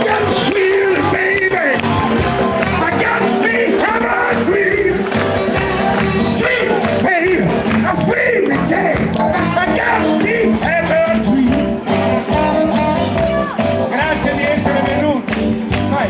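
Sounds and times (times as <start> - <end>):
live band with singing: 0.0 - 16.0.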